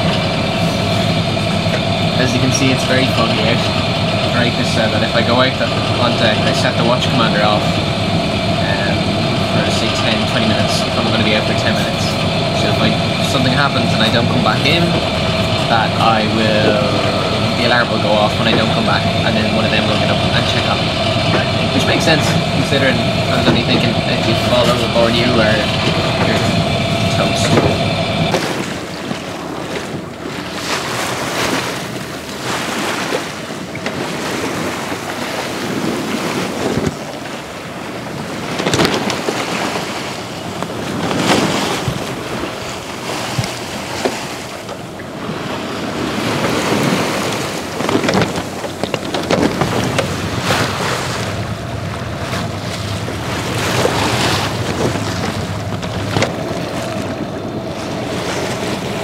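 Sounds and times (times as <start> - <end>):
water splashing along boat hull: 0.0 - 59.0
wind buffeting microphone: 0.0 - 59.0.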